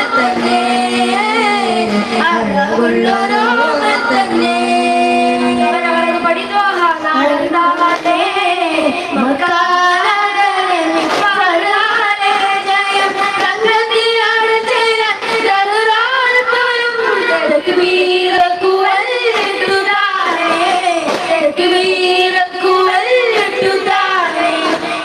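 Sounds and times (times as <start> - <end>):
boys singing together: 0.0 - 25.0.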